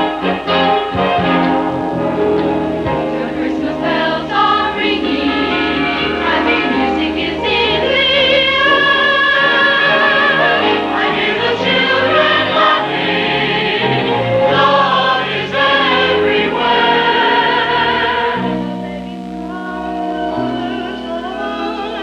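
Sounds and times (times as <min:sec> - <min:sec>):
church choir singing: 0:00.0 - 0:22.0
held low chords: 0:00.0 - 0:22.0.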